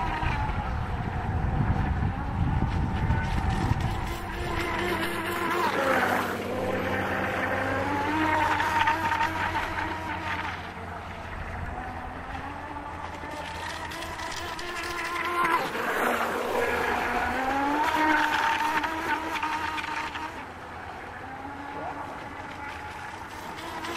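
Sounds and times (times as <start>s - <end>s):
electric boat motor whining: 0.0s - 23.9s.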